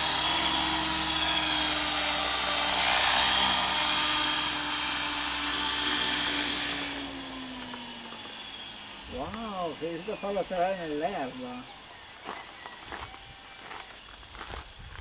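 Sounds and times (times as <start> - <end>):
helicopter rotor hum: 0.0 - 13.3
rc helicopter motor whine: 0.0 - 15.0.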